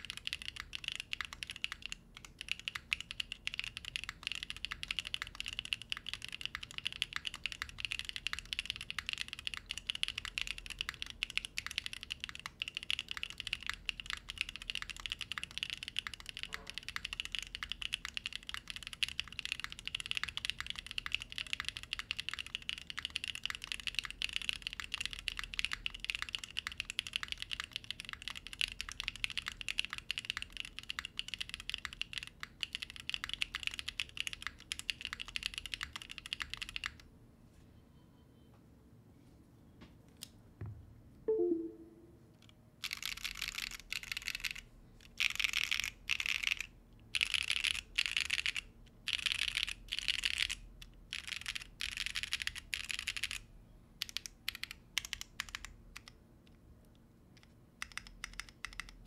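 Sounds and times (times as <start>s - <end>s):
fast mechanical keyboard typing: 0.0s - 37.1s, 42.8s - 56.2s, 57.4s - 59.0s.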